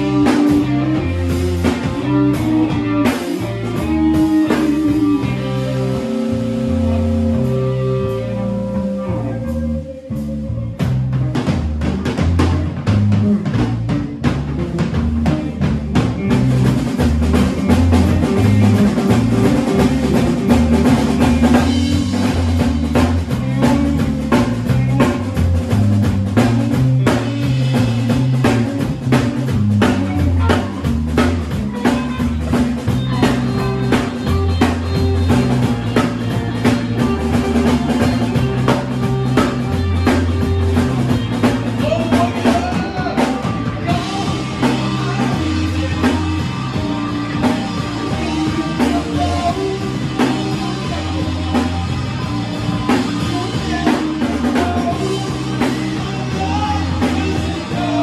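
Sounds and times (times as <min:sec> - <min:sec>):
held guitar notes: 0:00.0 - 0:58.0
live rock band playing: 0:00.0 - 0:58.0.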